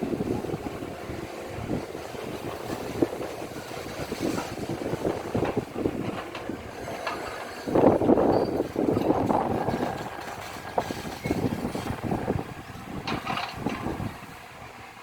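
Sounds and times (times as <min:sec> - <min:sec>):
wind on microphone: 0:00.0 - 0:14.8
heavy machine running: 0:00.0 - 0:15.0.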